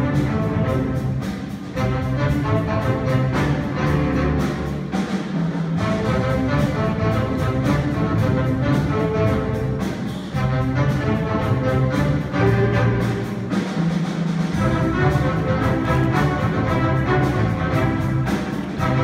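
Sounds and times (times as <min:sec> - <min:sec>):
jazz big band playing: 0:00.0 - 0:19.0.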